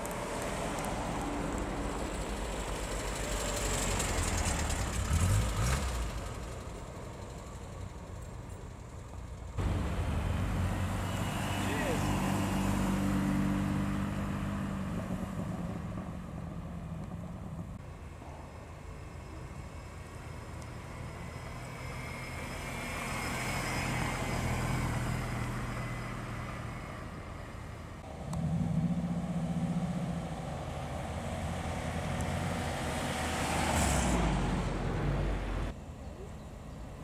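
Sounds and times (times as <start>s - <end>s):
cars driving slowly past: 0.0s - 37.0s.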